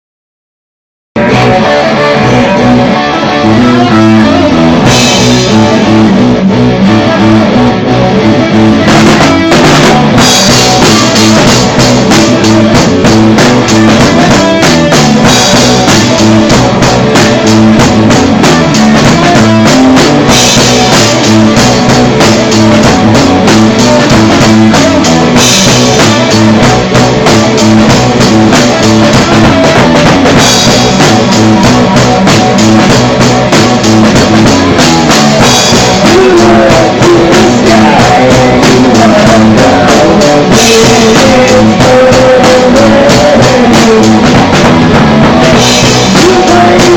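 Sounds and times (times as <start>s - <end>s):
punk rock guitar and drums: 1.2s - 46.9s.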